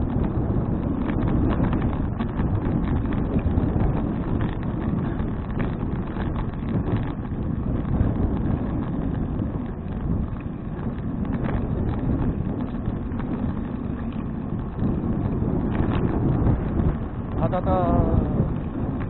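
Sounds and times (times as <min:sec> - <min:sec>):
faint clicks and rattles: 0:00.0 - 0:19.0
wind rushing over microphone: 0:00.0 - 0:19.0.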